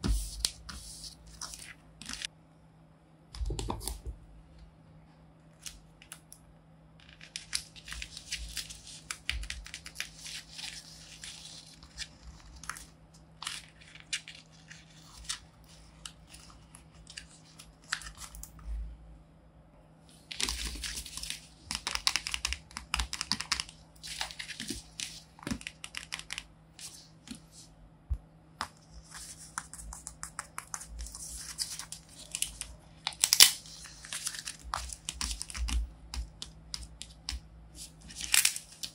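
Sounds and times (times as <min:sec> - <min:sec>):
paper crinkling and crackling: 0:00.0 - 0:02.3, 0:07.0 - 0:18.6, 0:20.3 - 0:27.5, 0:28.6 - 0:38.9.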